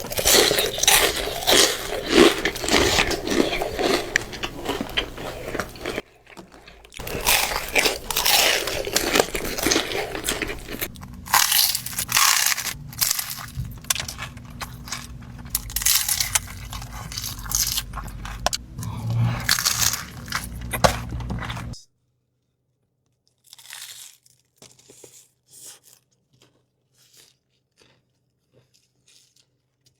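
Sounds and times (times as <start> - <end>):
crunching and chewing fried pastry: 0.0 - 21.8, 22.9 - 29.9.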